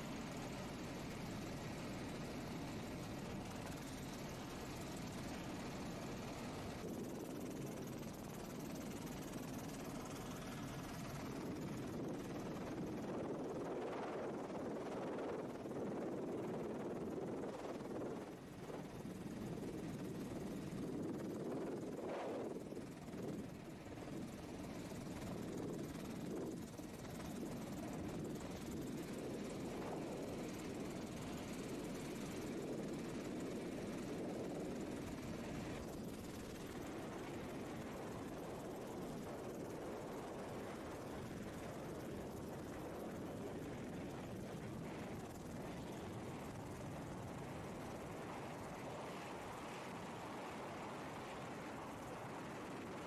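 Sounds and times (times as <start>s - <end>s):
helicopter engine and rotor rumble: 0.0s - 53.0s.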